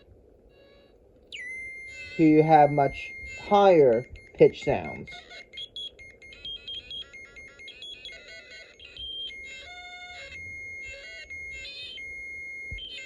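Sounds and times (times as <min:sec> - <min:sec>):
electronic beeps and chirps: 0:01.3 - 0:13.0
steady high electronic tone: 0:01.3 - 0:13.0.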